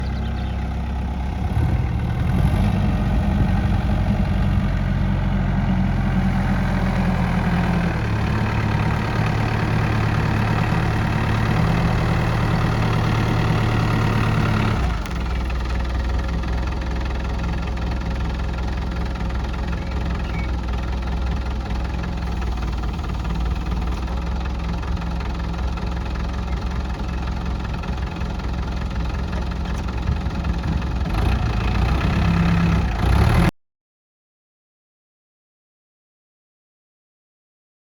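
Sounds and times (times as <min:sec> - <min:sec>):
truck engine revving and idling: 0:00.0 - 0:33.5.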